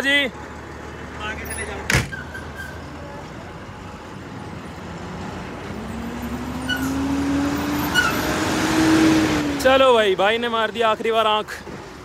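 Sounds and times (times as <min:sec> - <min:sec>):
road noise: 0:00.0 - 0:12.0
truck engine accelerating: 0:00.0 - 0:12.0.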